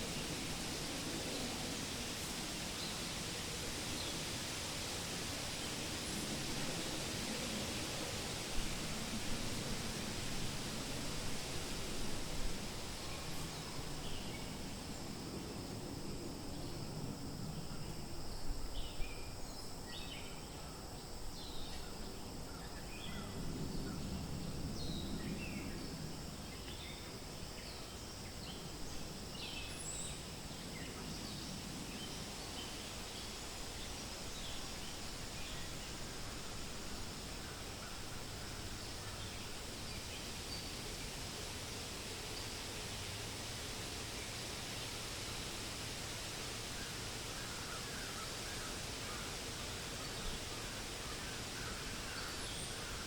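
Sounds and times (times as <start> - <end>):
wind rustling leaves: 0.0 - 53.0.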